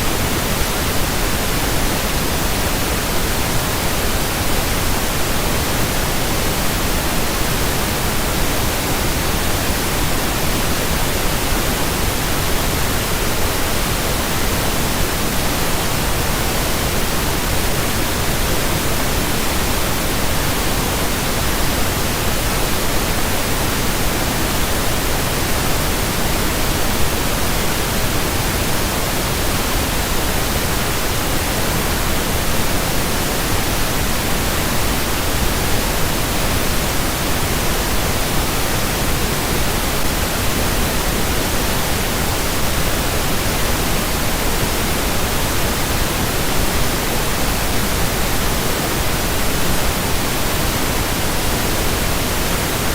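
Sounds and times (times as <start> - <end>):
pink noise hiss: 0.0 - 52.9.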